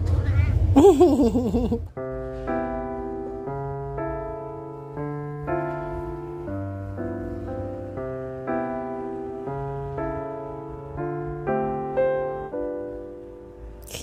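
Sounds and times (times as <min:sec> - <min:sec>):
light piano tune: 0:00.0 - 0:14.0.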